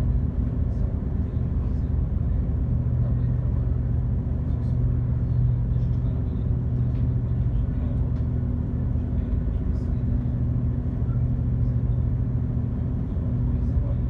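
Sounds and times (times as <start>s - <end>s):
ferry engines droning: 0.0s - 14.0s.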